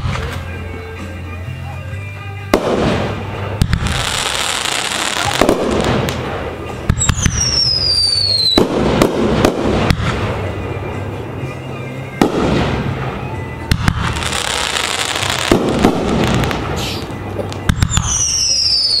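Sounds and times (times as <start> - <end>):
firework crackling: 0.0 - 0.8, 2.5 - 19.0.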